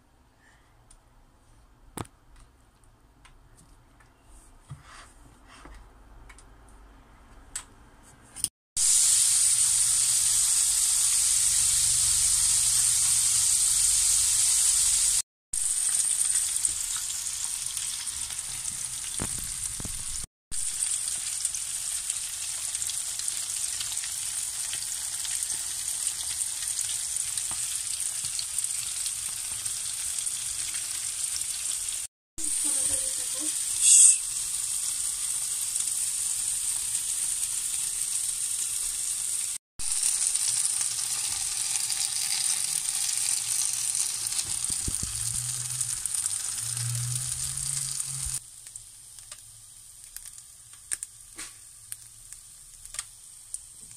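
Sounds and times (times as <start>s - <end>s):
fish frying in hot oil: 8.8s - 53.9s.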